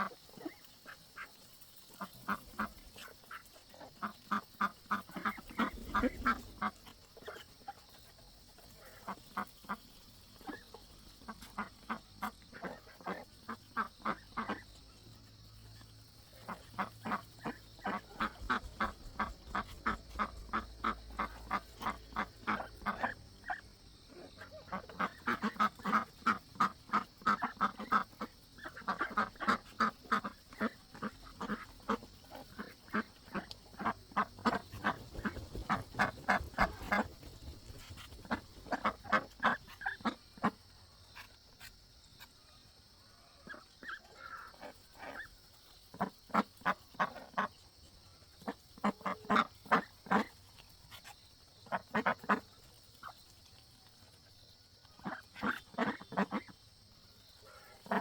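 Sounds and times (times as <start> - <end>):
ducks quacking: 0.0 - 15.1, 16.2 - 42.3, 43.1 - 47.6, 48.2 - 53.2, 54.8 - 56.7, 57.3 - 58.0.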